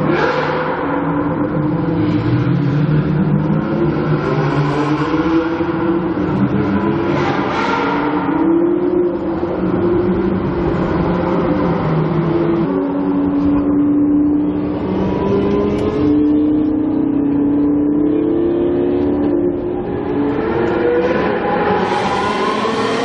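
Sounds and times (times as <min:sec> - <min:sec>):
car engine running loudly: 0:00.0 - 0:23.0.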